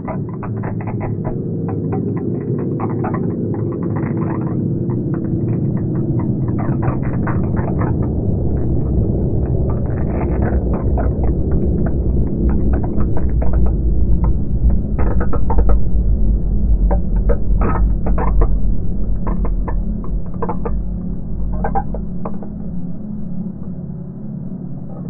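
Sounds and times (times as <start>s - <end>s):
deep rumble: 0.0s - 25.0s
steady low hum: 0.0s - 25.0s.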